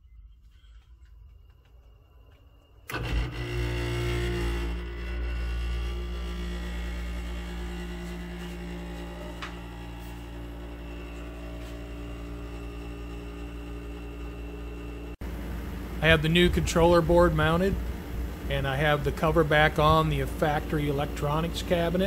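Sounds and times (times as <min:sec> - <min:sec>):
air conditioner hum: 0:00.5 - 0:22.0
air conditioner fan noise: 0:02.9 - 0:22.0.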